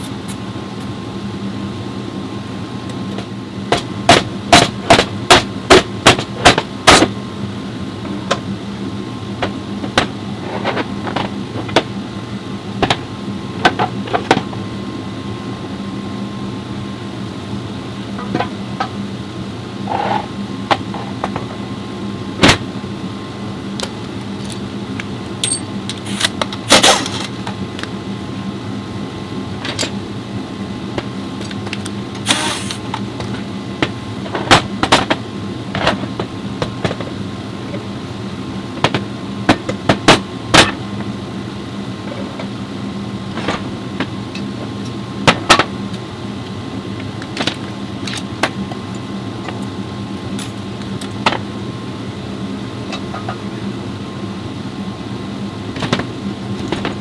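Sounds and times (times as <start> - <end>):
workshop hum: 0.0 - 57.0.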